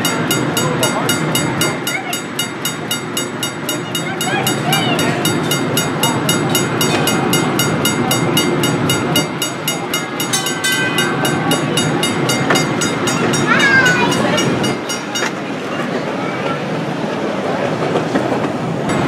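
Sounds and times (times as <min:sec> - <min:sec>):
trolley rumbling on rails: 0:00.0 - 0:19.0.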